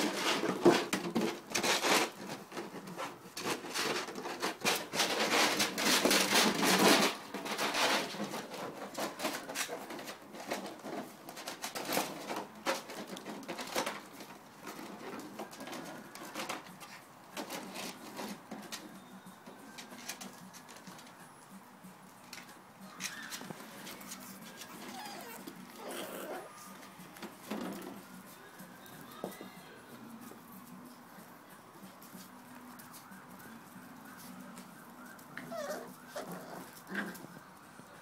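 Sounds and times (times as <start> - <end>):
plastic bag crinkling and scraping: 0.0 - 18.9, 22.3 - 30.5, 33.8 - 37.5.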